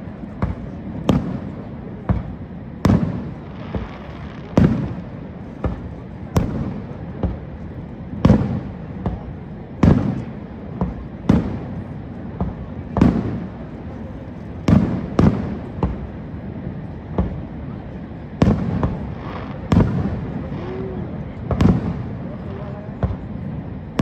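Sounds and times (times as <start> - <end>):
fireworks booming: 0.0 - 24.0
steady background hiss: 0.0 - 24.0
small firework pops: 0.3 - 7.5, 8.2 - 13.7, 14.6 - 16.1, 17.1 - 17.5, 18.4 - 23.3.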